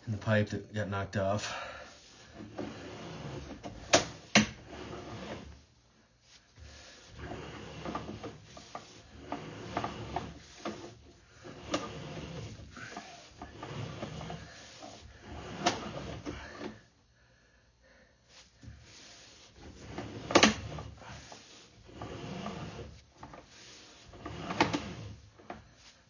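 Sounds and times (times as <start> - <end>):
cable scraping in pipe: 0.0 - 16.9, 18.3 - 26.0.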